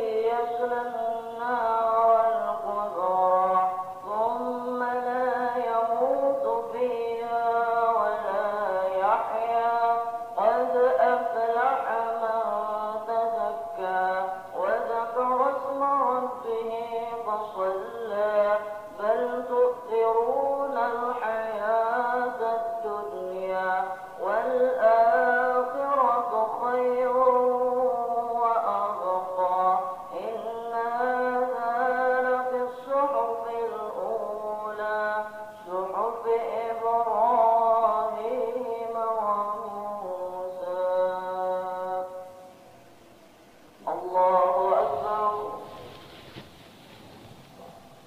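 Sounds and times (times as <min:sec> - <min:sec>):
man chanting recitation: 0:00.0 - 0:42.4, 0:43.8 - 0:46.6.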